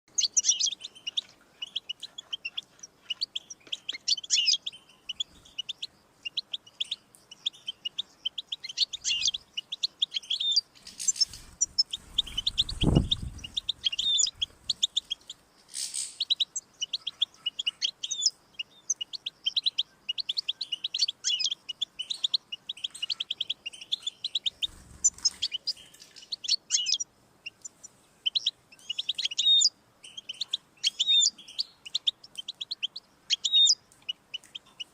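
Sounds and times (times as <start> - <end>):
finch twittering song: 0.1 - 34.9.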